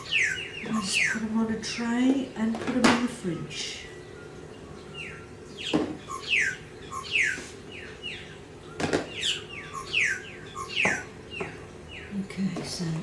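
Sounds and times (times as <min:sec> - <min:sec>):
bird chirping: 0:00.0 - 0:01.8, 0:03.3 - 0:13.0.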